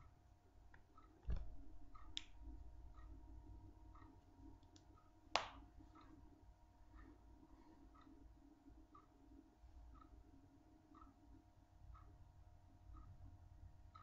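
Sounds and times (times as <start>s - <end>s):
soft ticking: 0.0s - 14.0s
steady hum: 0.0s - 14.0s.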